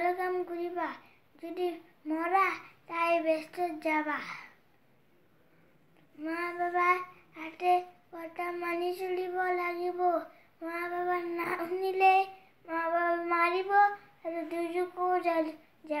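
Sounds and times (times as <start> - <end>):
child singing: 0.0 - 4.3, 6.2 - 16.0.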